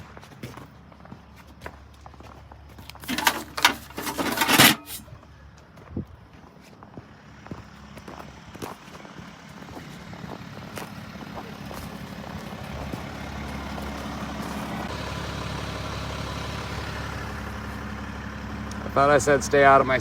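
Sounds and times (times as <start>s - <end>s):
truck engine idling: 0.5s - 20.0s.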